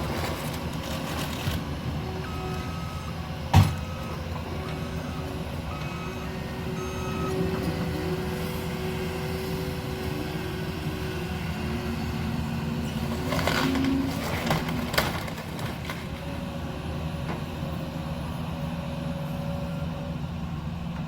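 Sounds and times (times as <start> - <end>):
diesel machinery engine running: 0.0 - 21.0.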